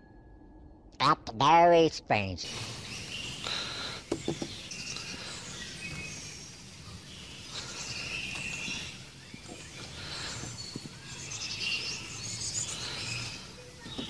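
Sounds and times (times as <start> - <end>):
outdoor background noise: 0.0 - 14.0
birds chirping: 0.6 - 14.0.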